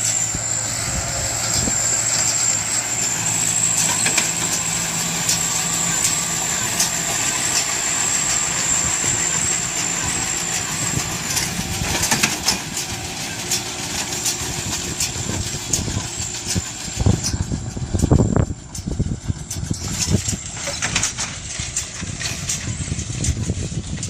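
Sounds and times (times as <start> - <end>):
high whine: 0.0 - 23.8
baler clacking: 0.0 - 24.0
tractor engine drone: 0.0 - 24.0.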